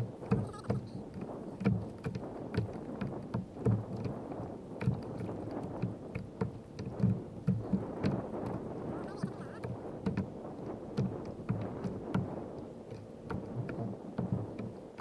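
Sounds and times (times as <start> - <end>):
light wind noise: 0.0 - 15.0
waves slapping kayak hull: 0.0 - 15.0.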